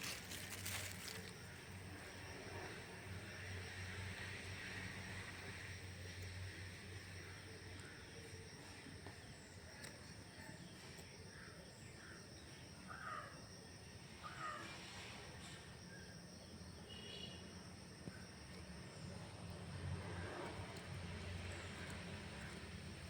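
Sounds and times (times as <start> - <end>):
faint outdoor background: 0.0 - 23.0.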